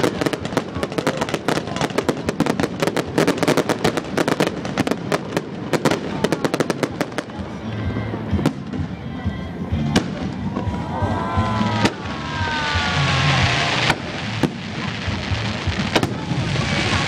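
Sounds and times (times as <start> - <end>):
fireworks bangs: 0.0 - 9.2, 9.9 - 17.0
fireworks crackling hiss and rumble: 0.0 - 17.0.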